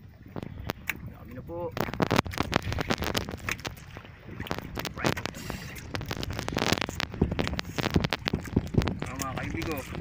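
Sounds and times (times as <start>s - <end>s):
fishing line clicks and scrapes: 1.7s - 10.0s.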